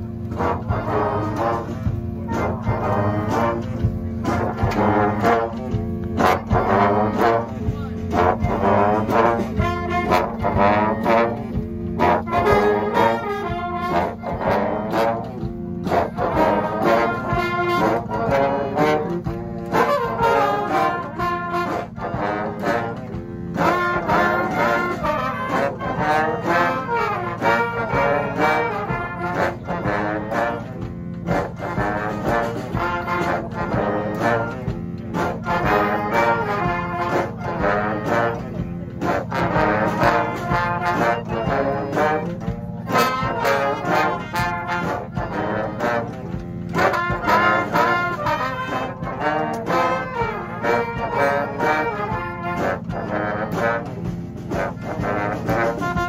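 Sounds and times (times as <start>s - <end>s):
brass band playing: 0.0s - 56.0s
drums: 0.0s - 56.0s.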